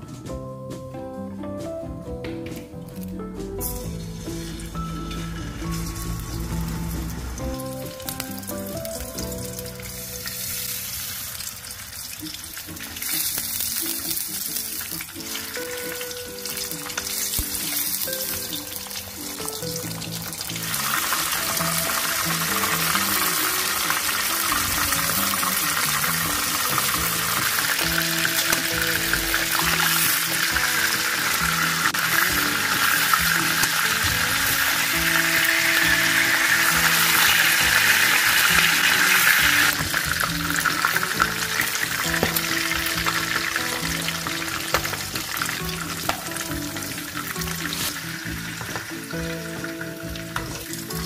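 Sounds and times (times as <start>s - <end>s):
meat sizzling in frying pan: 3.7s - 51.0s.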